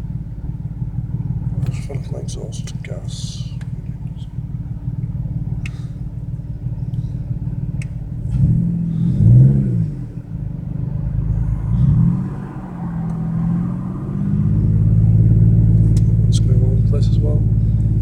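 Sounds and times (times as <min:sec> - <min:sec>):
misfiring car engine revving: 0:00.0 - 0:18.0.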